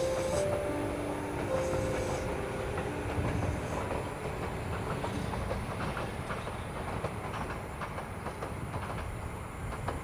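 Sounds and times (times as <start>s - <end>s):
electric train rumbling: 0.0s - 10.0s
wheels clicking over rails: 0.0s - 10.0s.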